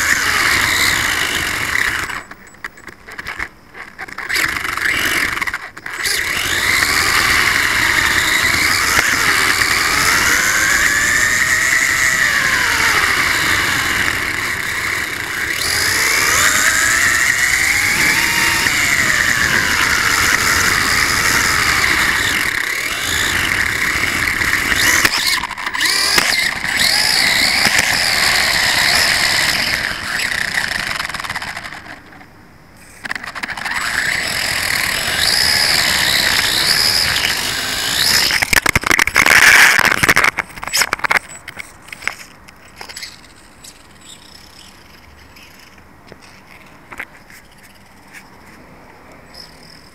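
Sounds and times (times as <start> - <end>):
electric motor whining: 0.0 - 32.1, 32.9 - 42.2
small tyres rumbling on paving: 0.0 - 48.7.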